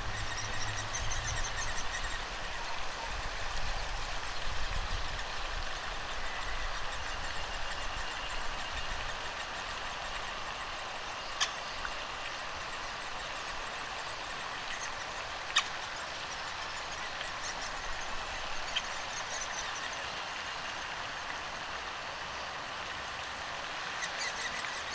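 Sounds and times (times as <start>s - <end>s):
steady outdoor hiss: 0.0s - 24.9s.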